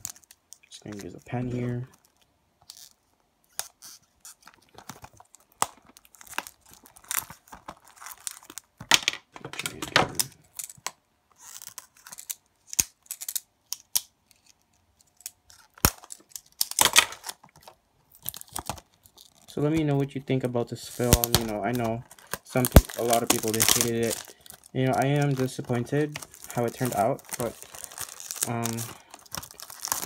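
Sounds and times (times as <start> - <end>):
plastic shrink-wrap tearing: 0.0 - 9.0, 9.6 - 30.0.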